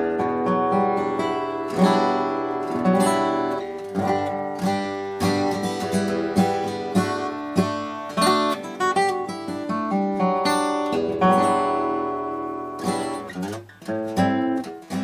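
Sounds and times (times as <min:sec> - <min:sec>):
acoustic guitar picked notes and chords: 0:00.0 - 0:15.0.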